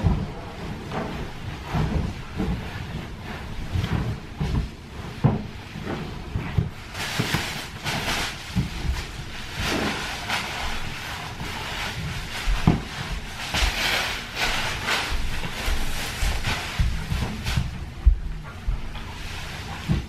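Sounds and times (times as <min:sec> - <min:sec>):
pillows rustling on sofa: 0:00.0 - 0:20.0.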